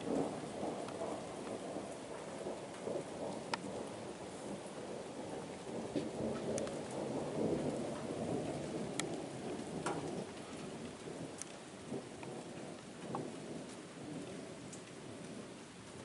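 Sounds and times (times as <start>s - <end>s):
low rumble of thunder: 0.0s - 16.0s
steady rain: 0.0s - 16.0s.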